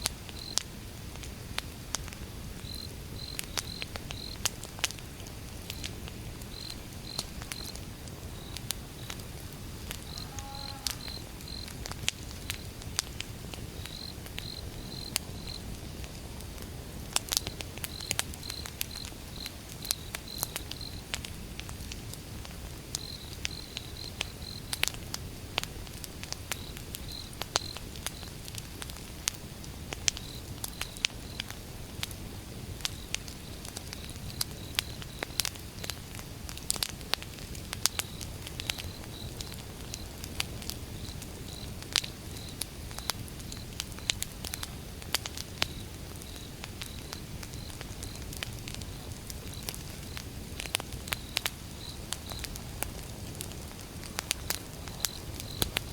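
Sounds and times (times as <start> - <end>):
firewood crackling and popping: 0.0 - 55.9
low rumble of flame: 0.0 - 55.9.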